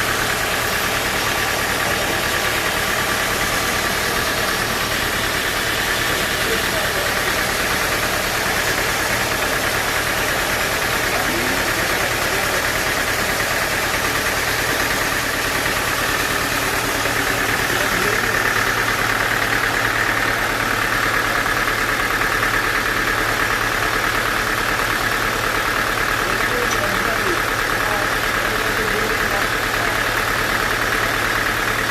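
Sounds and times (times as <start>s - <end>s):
sawmill machinery drone: 0.0s - 31.9s.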